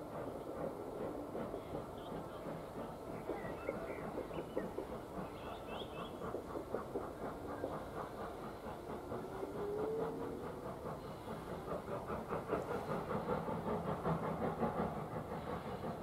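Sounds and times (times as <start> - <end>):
train running with even beat: 0.0 - 16.0.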